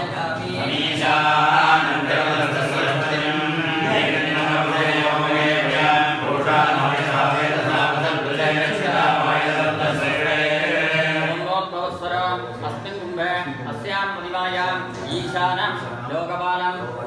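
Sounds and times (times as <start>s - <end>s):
men chanting mantras: 0.0s - 17.0s.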